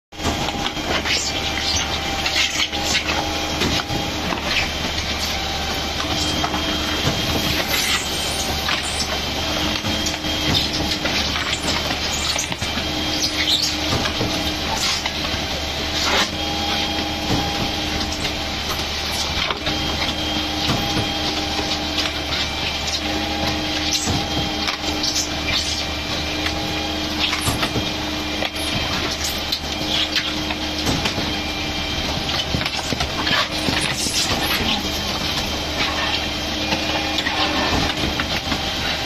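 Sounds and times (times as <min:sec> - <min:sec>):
steady machine drone: 0:00.1 - 0:39.0
concrete churning in mixing drum: 0:00.2 - 0:39.0.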